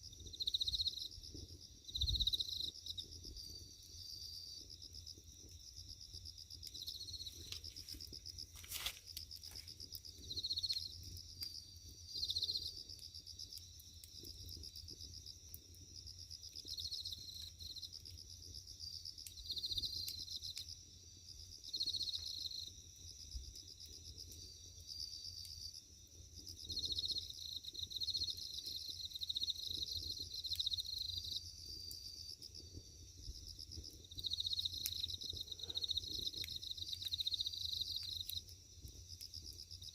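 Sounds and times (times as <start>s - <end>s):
fire crackling: 0.0s - 39.9s
insects chirping in trills: 0.0s - 39.9s.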